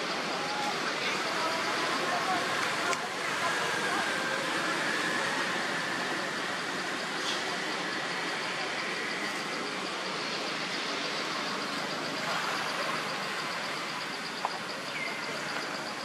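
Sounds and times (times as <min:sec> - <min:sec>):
fast high-pitched pulsing: 0:00.0 - 0:16.0
outdoor background noise: 0:00.0 - 0:16.0.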